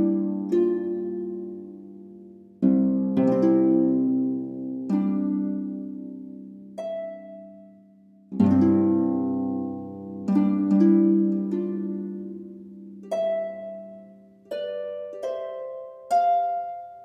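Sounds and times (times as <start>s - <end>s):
slow harp music: 0.0s - 17.0s.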